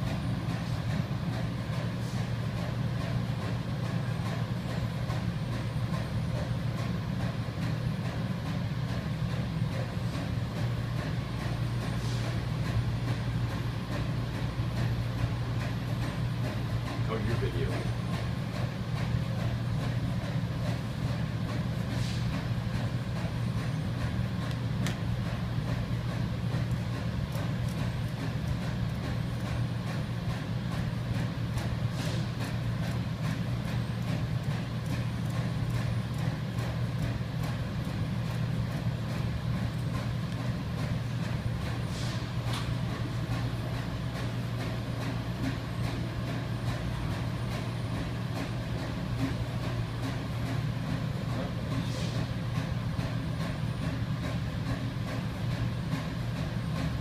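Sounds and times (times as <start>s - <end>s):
furnace equipment humming: 0.0s - 57.0s.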